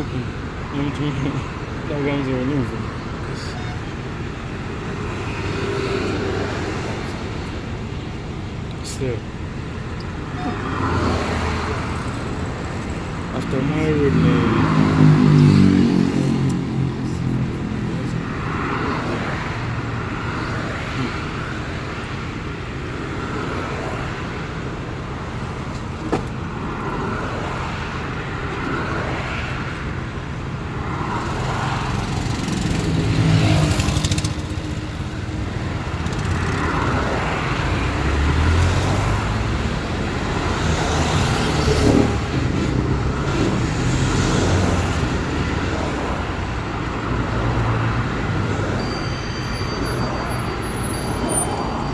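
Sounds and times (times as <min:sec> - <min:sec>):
cars passing: 0:00.0 - 0:51.9.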